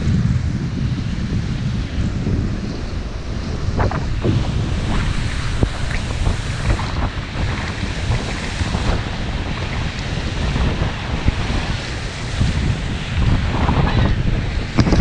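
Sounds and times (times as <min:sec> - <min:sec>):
waves washing in: 0:00.0 - 0:15.0
wind buffeting microphone: 0:00.0 - 0:15.0.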